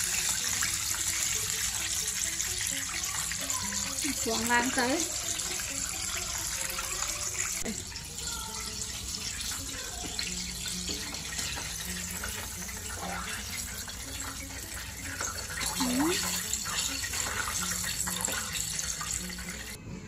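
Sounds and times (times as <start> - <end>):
oil deep-frying sizzling: 0.0 - 19.8.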